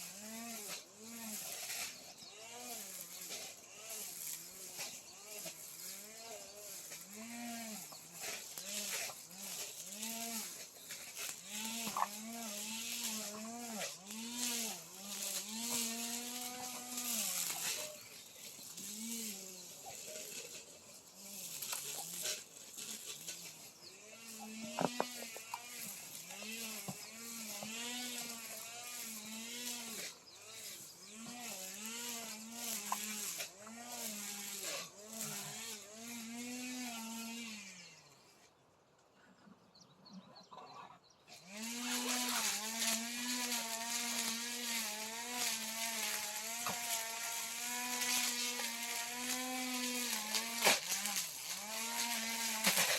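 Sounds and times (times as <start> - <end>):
brush cutter engine revving: 0.0 - 38.2, 41.3 - 52.9.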